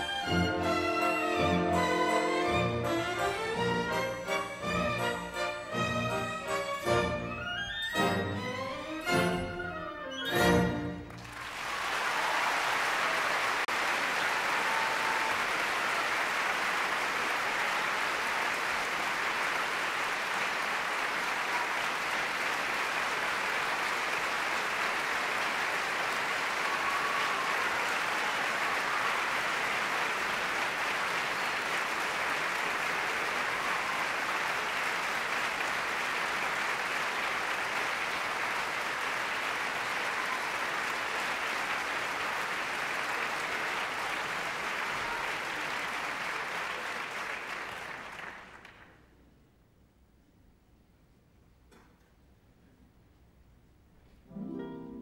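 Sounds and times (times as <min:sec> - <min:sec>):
audience applauding: 0:00.0 - 0:07.9, 0:08.6 - 0:49.1.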